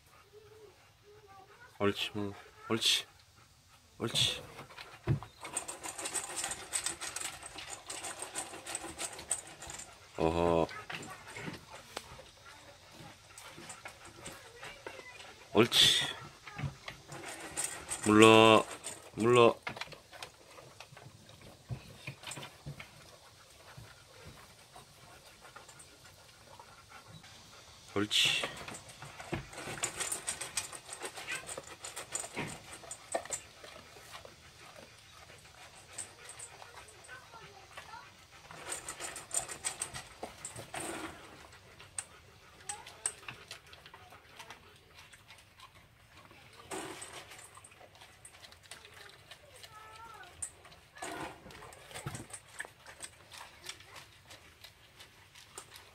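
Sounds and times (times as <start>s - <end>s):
dog panting: 0.0s - 55.9s.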